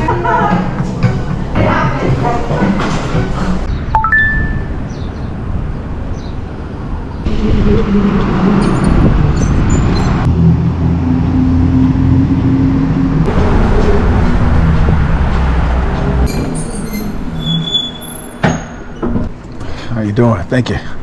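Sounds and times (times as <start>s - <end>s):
road traffic engine hum: 0.0s - 19.9s.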